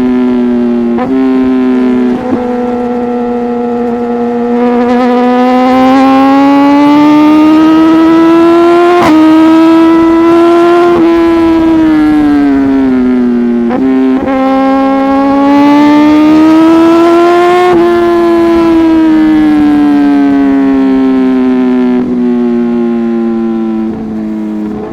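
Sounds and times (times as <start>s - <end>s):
motorcycle engine at speed: 0.0s - 24.9s.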